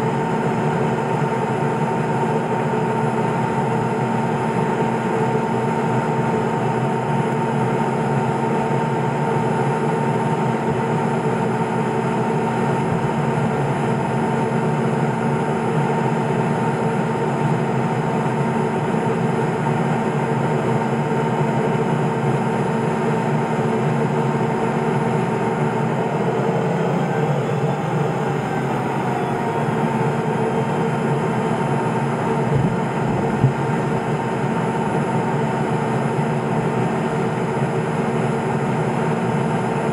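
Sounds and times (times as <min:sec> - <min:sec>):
aircraft cabin engine drone: 0:00.0 - 0:39.9.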